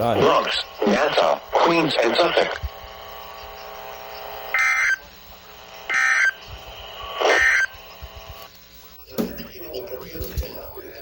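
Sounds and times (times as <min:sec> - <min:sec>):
digital data tone bursts: 0:00.0 - 0:11.0
steady background hum: 0:00.0 - 0:11.0.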